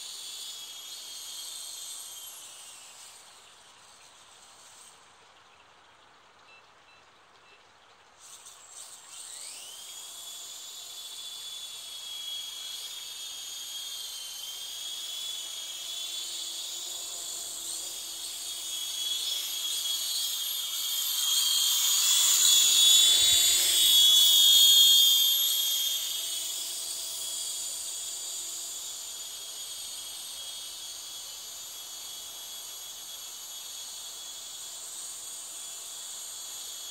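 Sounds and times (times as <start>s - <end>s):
rc helicopter motor whining: 0.0s - 5.2s, 8.2s - 36.9s.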